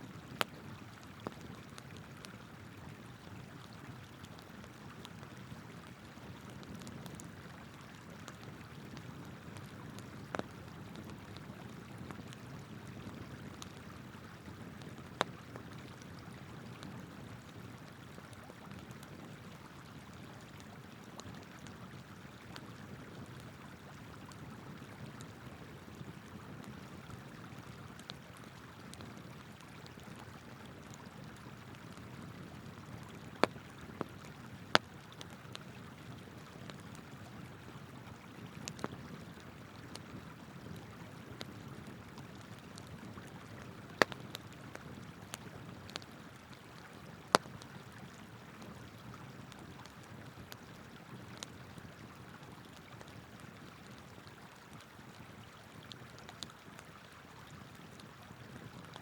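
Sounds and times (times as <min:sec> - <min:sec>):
campfire crackling and popping: 0:00.1 - 0:59.0.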